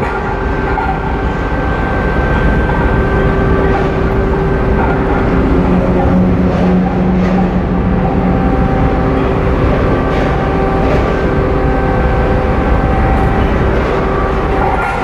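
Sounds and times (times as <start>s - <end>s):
engine humming tones: 0.0s - 15.0s
ship engines rumbling: 0.0s - 15.0s.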